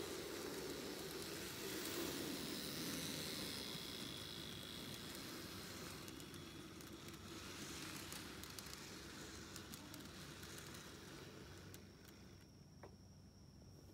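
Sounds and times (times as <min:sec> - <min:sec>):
model train wheels clicking: 0:00.0 - 0:12.5.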